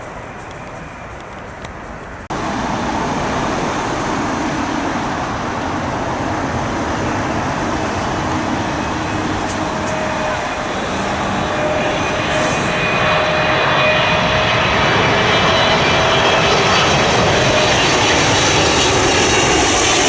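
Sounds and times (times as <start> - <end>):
jet airliner engine noise: 0.0 - 20.0
traffic noise: 0.0 - 20.0.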